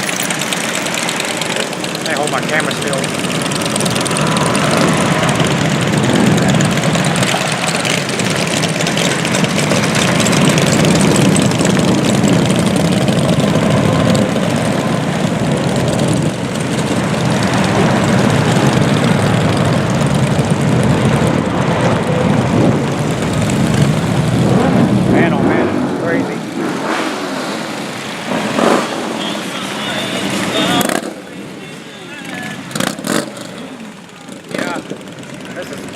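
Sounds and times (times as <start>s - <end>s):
many motorcycle engines droning: 0.0s - 35.9s.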